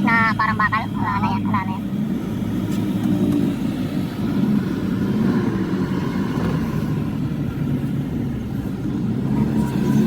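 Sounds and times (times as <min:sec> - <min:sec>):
pickup engine humming on road: 0:00.0 - 0:10.0.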